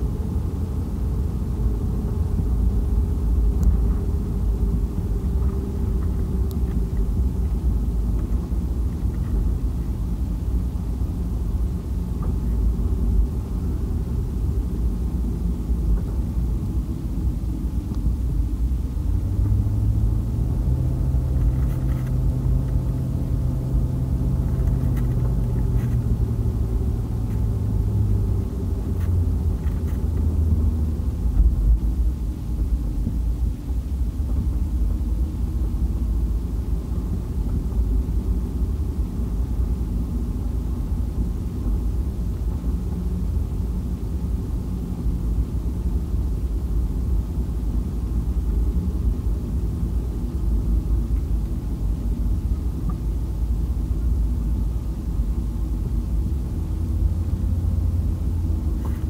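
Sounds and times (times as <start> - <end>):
engine hum: 0.0 - 59.0
road noise inside vehicle: 0.0 - 59.0.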